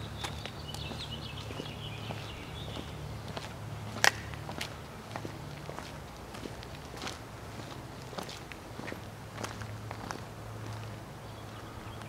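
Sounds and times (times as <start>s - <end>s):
soft footsteps: 0.1s - 12.0s.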